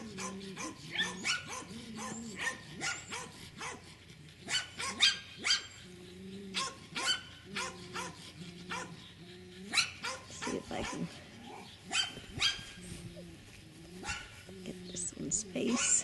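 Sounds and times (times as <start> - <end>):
puppies drawn-out calls: 0.0 - 16.0
puppies yipping and barking: 0.0 - 16.0.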